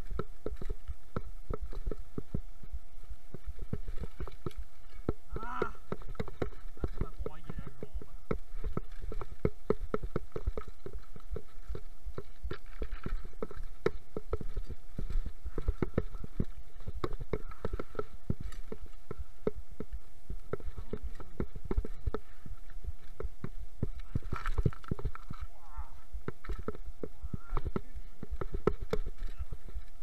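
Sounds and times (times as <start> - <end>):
mountain bike rattling over rocks: 3.0 - 25.6, 26.3 - 30.0.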